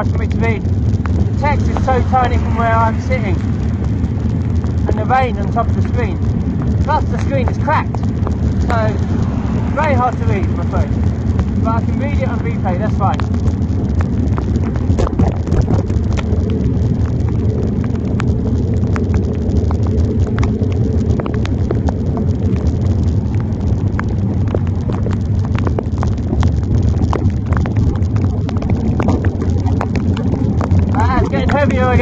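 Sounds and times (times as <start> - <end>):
raindrops ticking on phone: 0.0 - 32.0
wet-road noise: 0.0 - 32.0
wind rumble: 0.0 - 32.0.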